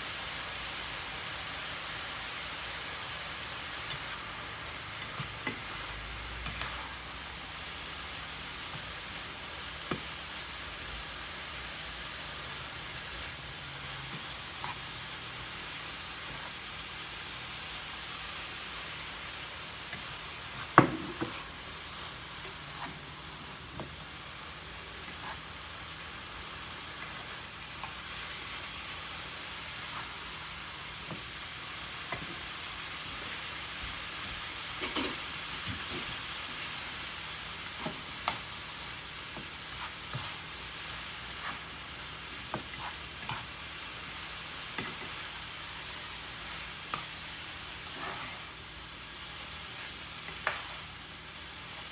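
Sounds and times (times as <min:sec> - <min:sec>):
rice sizzling in a frying pan: 0:00.0 - 0:51.9.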